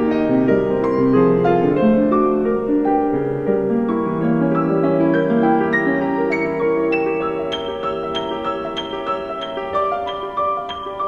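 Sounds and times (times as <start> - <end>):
keyboard melody: 0.0 - 11.0.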